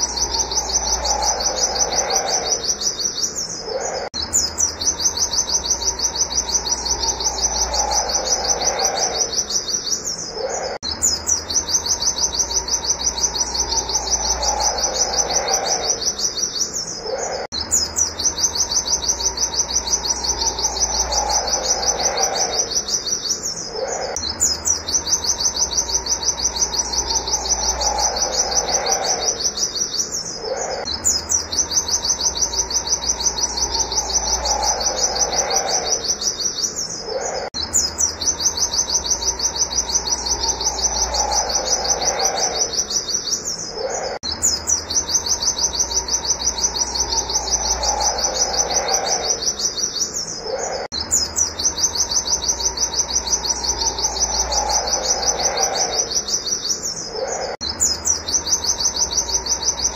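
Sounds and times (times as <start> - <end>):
bird singing rapid high notes: 0.0 - 59.9.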